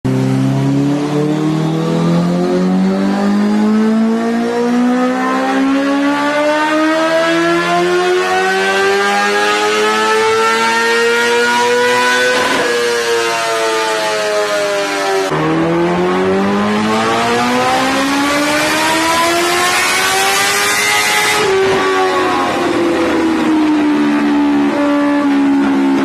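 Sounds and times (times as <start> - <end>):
high-revving engine accelerating: 0.1 - 26.0.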